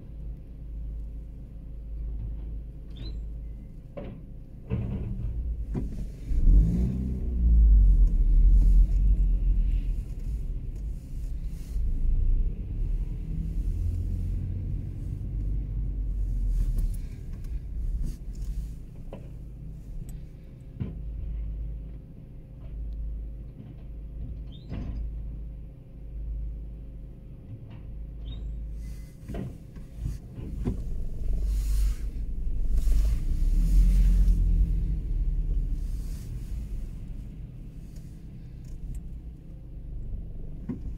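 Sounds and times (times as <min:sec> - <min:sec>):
garbage truck engine rumble: 0:01.8 - 0:23.3, 0:28.2 - 0:40.9.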